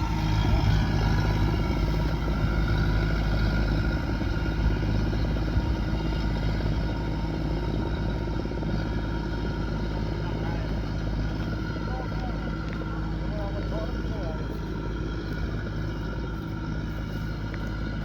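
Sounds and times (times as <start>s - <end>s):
harvester engine drone: 0.0s - 18.0s.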